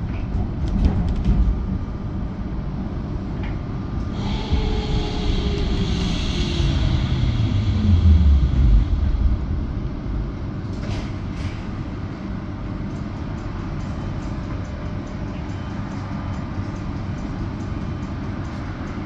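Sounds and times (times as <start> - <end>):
tram motor hum and rumble: 0.0 - 19.0.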